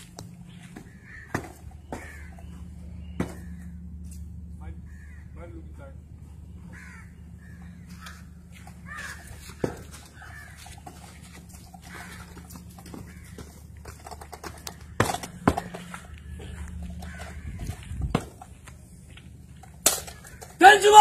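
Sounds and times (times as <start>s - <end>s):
steady low hum: 0.0s - 20.6s
crows cawing: 0.4s - 5.7s, 6.6s - 18.6s, 19.9s - 21.0s.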